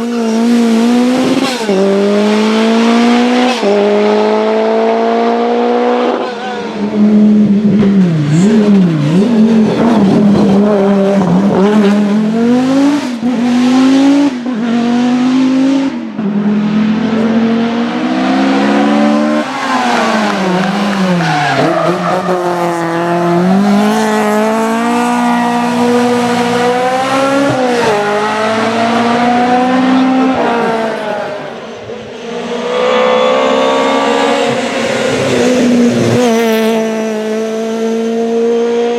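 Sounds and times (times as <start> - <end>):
rally car engine at high revs: 0.0 - 38.9.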